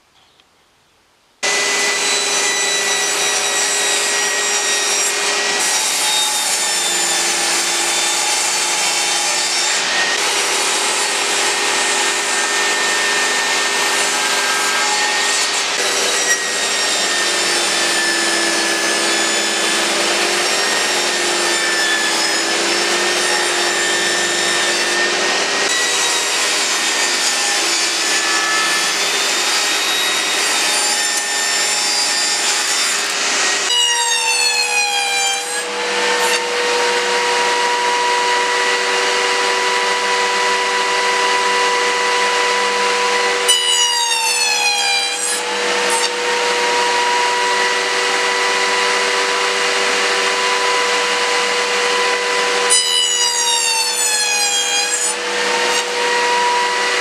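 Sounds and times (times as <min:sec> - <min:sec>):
table saw cutting wood: 0:01.4 - 0:57.0.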